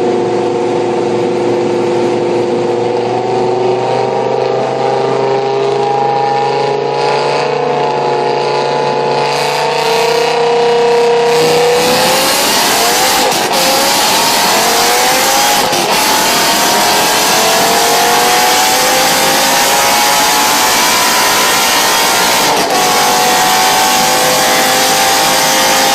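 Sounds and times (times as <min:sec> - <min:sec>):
car engine revving under load: 0:00.0 - 0:25.9
loud rushing noise: 0:00.0 - 0:25.9.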